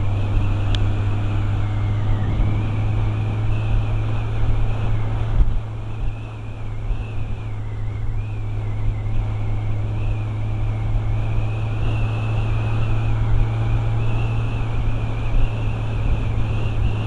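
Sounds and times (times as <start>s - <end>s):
motorcycle engine running: 0.0s - 17.0s
wind rush on microphone: 0.0s - 17.0s.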